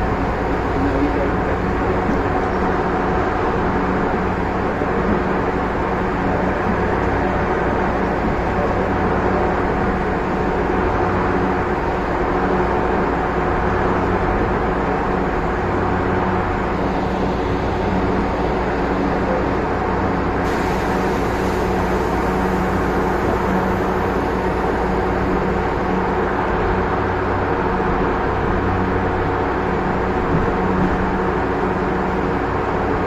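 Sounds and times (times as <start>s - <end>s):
wheels rumbling on track: 0.0s - 33.0s.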